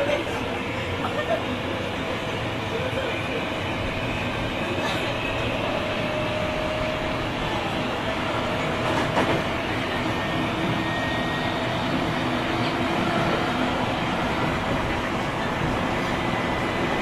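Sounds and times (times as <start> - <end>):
electric train rolling rumble: 0.0 - 17.0.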